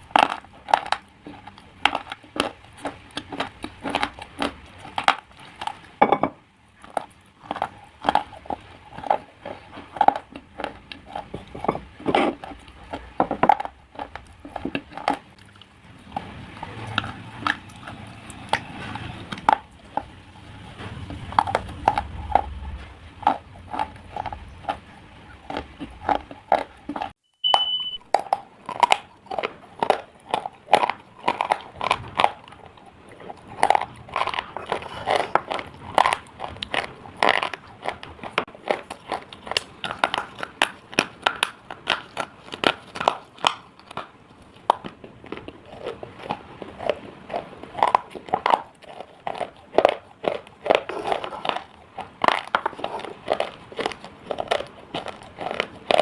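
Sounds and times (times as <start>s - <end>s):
chewing: 0.0s - 6.0s, 6.7s - 56.0s
slate crunching in mouth: 0.0s - 6.0s, 6.7s - 27.2s, 27.8s - 56.0s.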